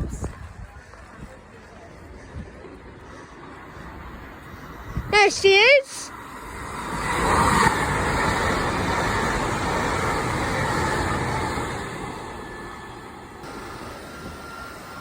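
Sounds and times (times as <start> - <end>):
train passing: 0.0 - 15.0.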